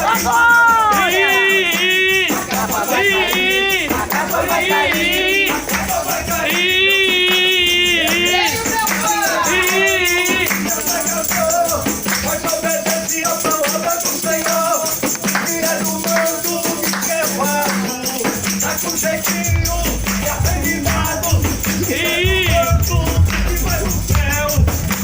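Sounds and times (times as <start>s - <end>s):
hand percussion rattling: 0.0s - 25.0s
person singing worship music: 0.0s - 25.0s.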